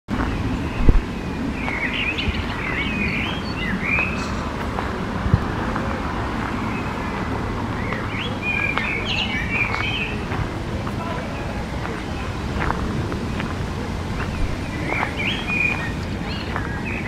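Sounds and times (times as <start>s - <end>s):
songbirds chirping: 0.1s - 17.0s.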